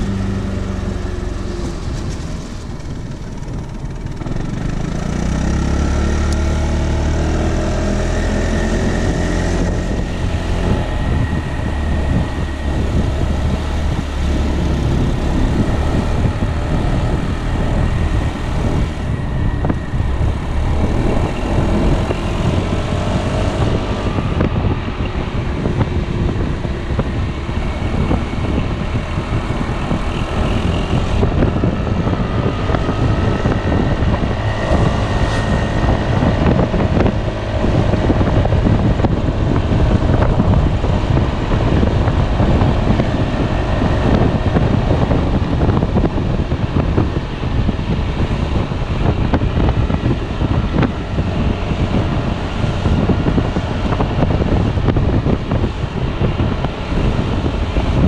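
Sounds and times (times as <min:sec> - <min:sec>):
scooter engine running: 0:00.0 - 0:58.0
wind buffeting on microphone: 0:00.0 - 0:58.0.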